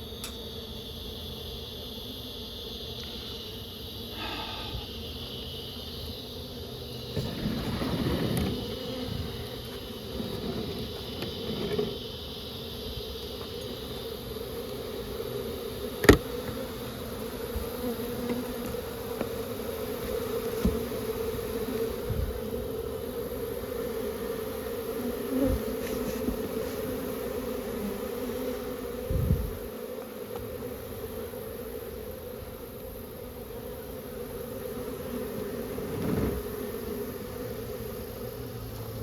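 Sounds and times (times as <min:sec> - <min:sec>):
honeybees buzzing: 0:00.0 - 0:39.0.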